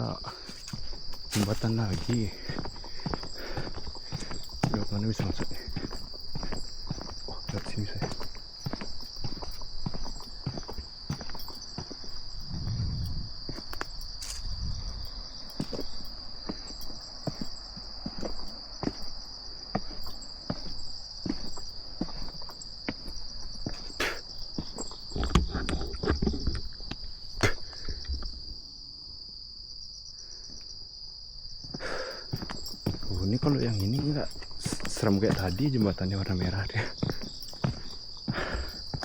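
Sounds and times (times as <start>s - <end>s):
insects shrilling: 0.0s - 29.2s, 30.0s - 39.0s
footsteps walking: 0.3s - 27.6s, 31.6s - 39.0s.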